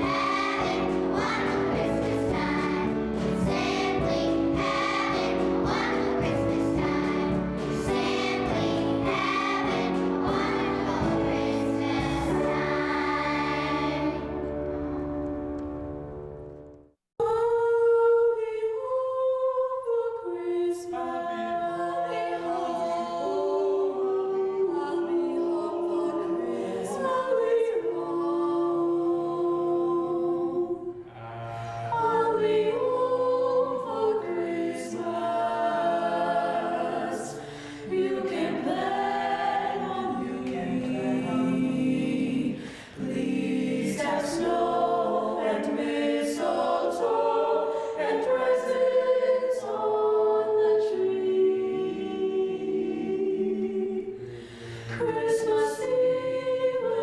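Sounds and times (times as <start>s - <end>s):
choir singing: 0.0s - 16.4s, 17.2s - 57.0s.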